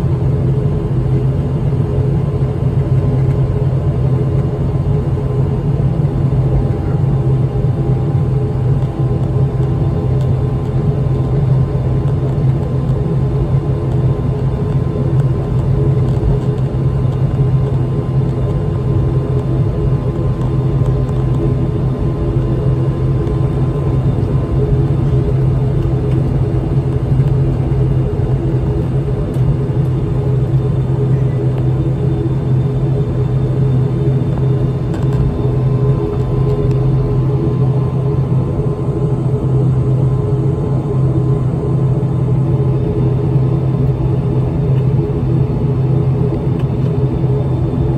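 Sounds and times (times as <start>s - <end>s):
propeller plane engine drone: 0.0s - 47.9s.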